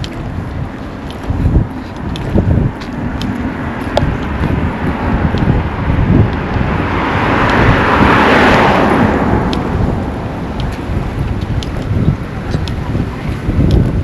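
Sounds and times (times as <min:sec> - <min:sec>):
vehicle passing close by: 0:00.0 - 0:14.0
wind buffeting microphone: 0:00.0 - 0:14.0.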